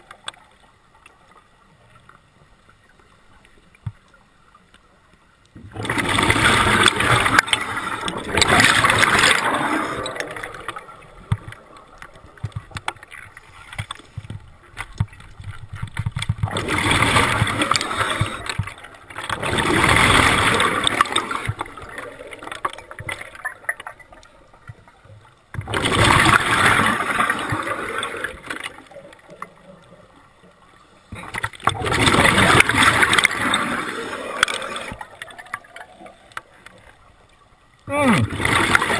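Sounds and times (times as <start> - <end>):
exhaled bubbles gurgling underwater: 5.6 - 38.9.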